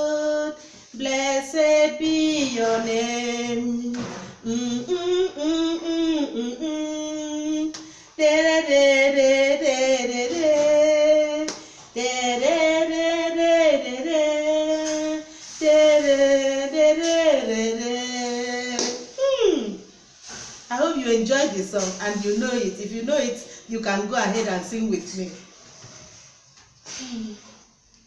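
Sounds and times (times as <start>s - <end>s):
woman singing unaccompanied: 0.0s - 19.8s, 20.7s - 25.4s.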